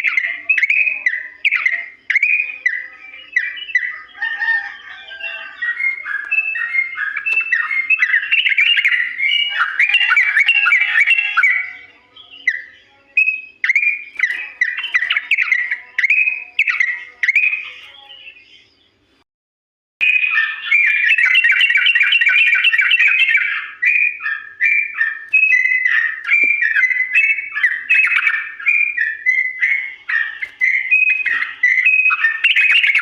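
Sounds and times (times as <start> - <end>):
bird chattering song: 0.0 - 19.2, 20.0 - 33.0.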